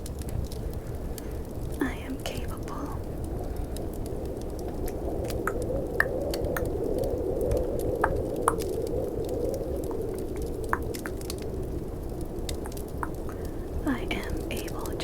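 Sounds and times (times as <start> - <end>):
fireplace crackles: 0.0 - 15.0
snowstorm ambience: 0.0 - 15.0.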